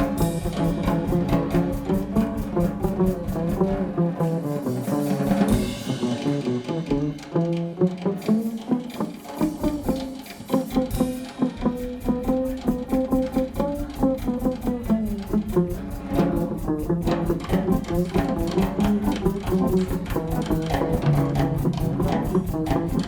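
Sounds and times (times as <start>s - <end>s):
drum kit beat: 0.0s - 23.0s
live band playing: 0.0s - 23.0s.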